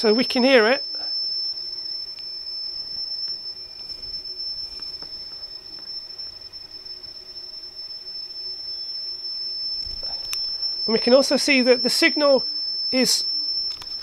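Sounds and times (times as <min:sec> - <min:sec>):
steady high-pitched tape tone: 0:00.0 - 0:14.0.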